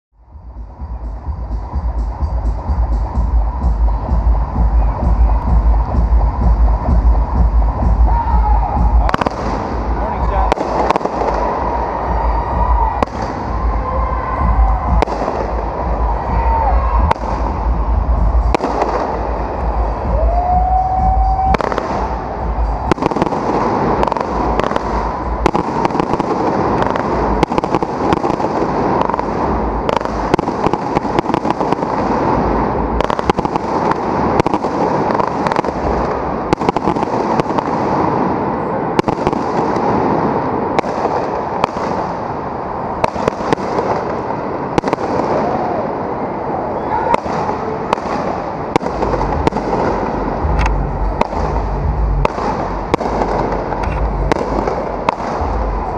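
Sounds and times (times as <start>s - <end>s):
fireworks crackling and popping: 0.3s - 55.9s.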